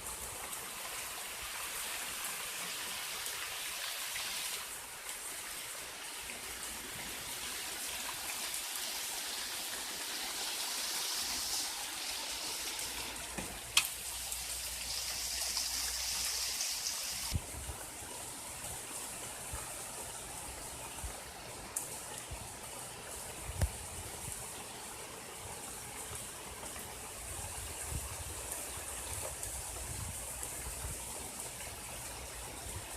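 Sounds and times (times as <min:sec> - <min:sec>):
heavy rain: 0:00.0 - 0:32.9
running floodwater: 0:00.0 - 0:32.9.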